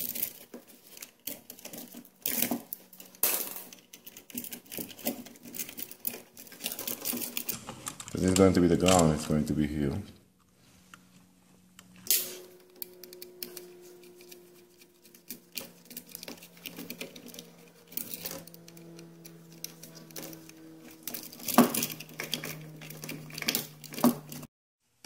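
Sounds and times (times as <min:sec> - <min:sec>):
wires and hand tools clicking: 0:00.0 - 0:08.4, 0:11.8 - 0:24.5
steady low hum: 0:00.0 - 0:24.5.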